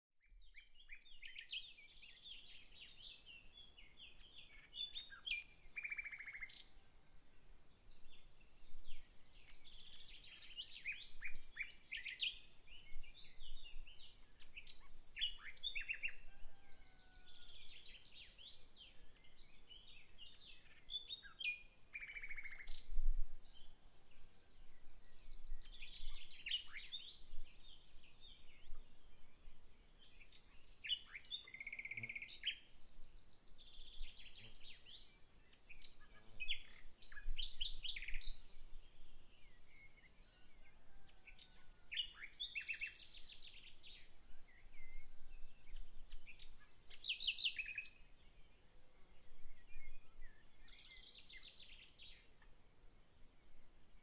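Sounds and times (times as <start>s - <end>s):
songbirds chirping and trilling: 0.2s - 54.0s.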